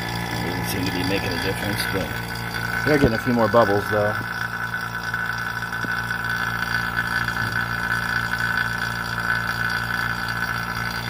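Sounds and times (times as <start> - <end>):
vacuum pump running: 0.0 - 11.0.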